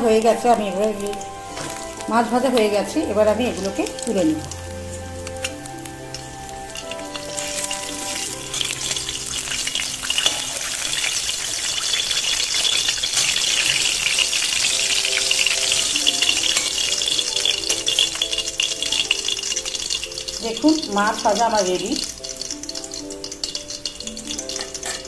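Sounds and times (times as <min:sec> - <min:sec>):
hot oil sizzling: 0:00.0 - 0:25.0
soft background music: 0:00.0 - 0:25.0.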